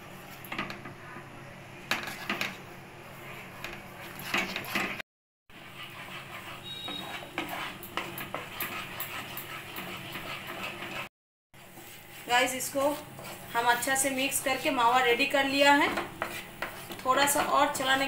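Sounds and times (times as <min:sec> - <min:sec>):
spoon scraping a pan: 0:01.9 - 0:02.6, 0:03.2 - 0:05.0, 0:05.6 - 0:18.0.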